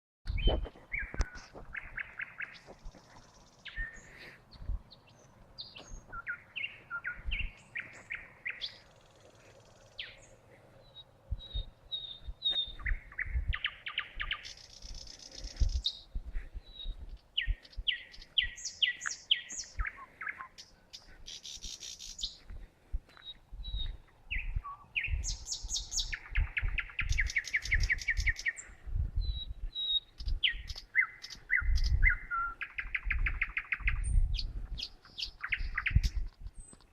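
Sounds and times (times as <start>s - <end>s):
songbird singing: 0.3s - 36.9s.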